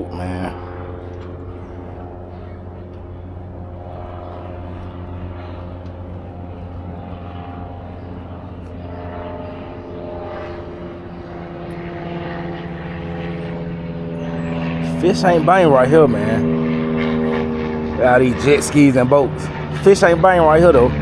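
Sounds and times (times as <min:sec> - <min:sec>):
motorboat engine droning: 0:00.0 - 0:21.0.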